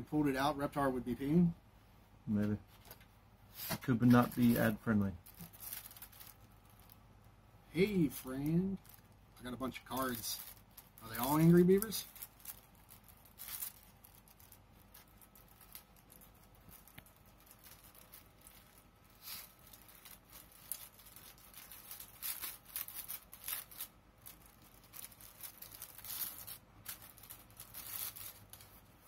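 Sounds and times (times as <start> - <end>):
card pack rustling and tearing: 3.6 - 7.0, 8.0 - 29.0.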